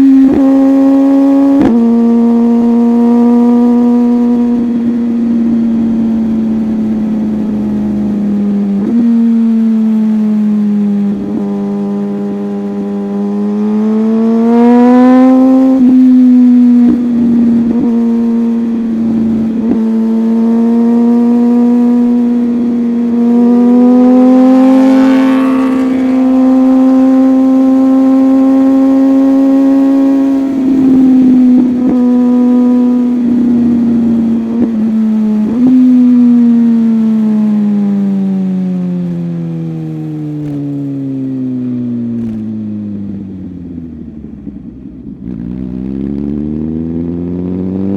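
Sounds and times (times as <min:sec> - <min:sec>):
motorcycle engine at high revs: 0:00.0 - 0:41.5, 0:42.1 - 0:47.9.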